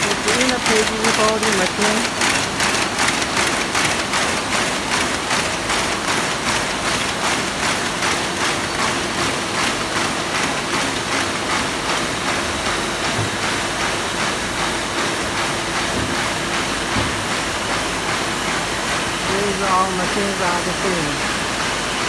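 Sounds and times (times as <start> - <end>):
folding machine running: 0.0 - 22.0.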